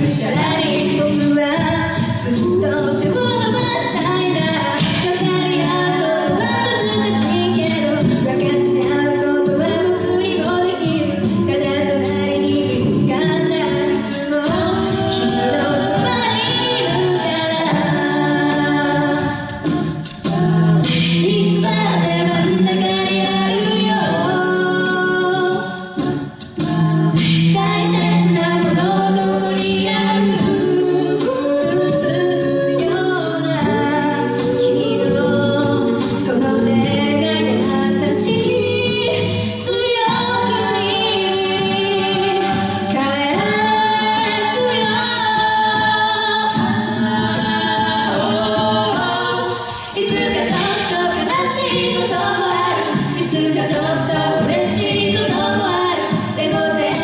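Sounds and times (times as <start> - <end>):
backing vocal harmonies: 0.0 - 57.0
vocal percussion beat: 0.0 - 57.0
woman singing lead: 0.0 - 57.0.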